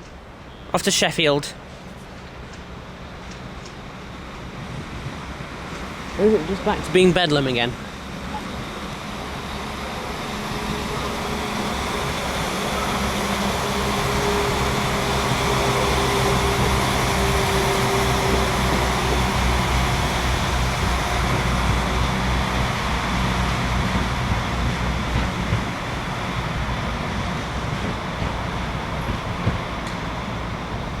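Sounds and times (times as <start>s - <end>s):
train running noise: 1.4s - 31.0s.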